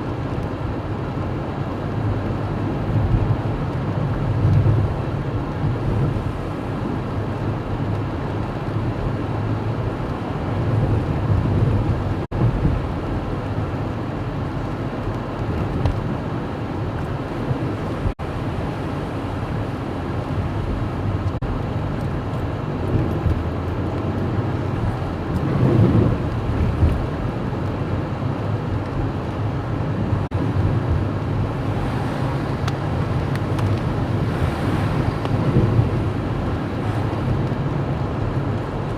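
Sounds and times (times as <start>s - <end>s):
car engine: 0.0s - 38.9s
road noise: 0.0s - 38.9s.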